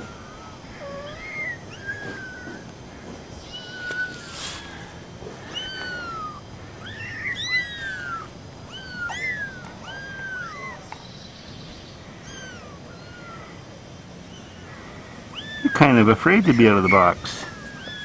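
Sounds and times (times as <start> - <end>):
kittens meowing: 0.0 - 18.0.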